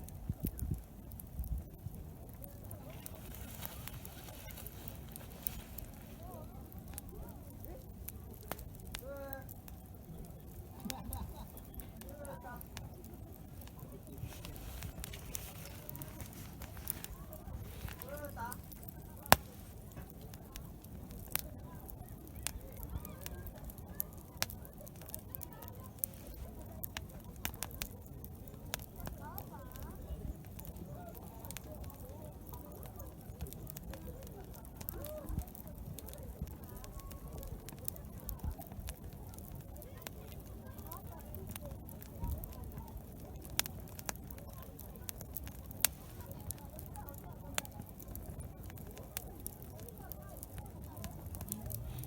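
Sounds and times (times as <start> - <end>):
campfire crackling and popping: 0.0 - 52.0
murmur of voices: 0.0 - 52.0.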